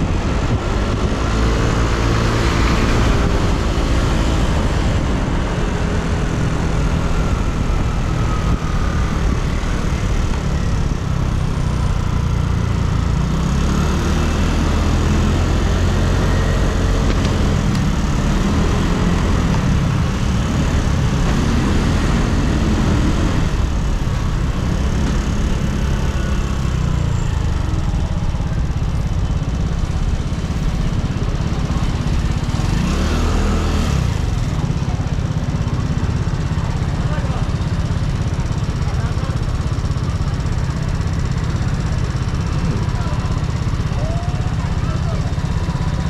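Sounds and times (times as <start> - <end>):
scooter engine running: 0.0 - 46.0.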